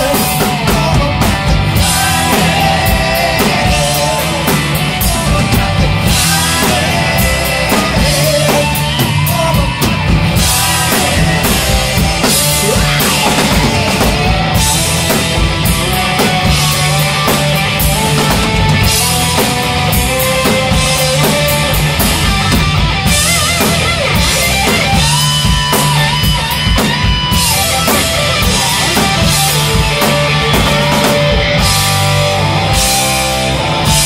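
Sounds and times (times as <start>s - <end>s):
lead electric guitar: 0.0s - 34.0s
live rock band playing: 0.0s - 34.0s.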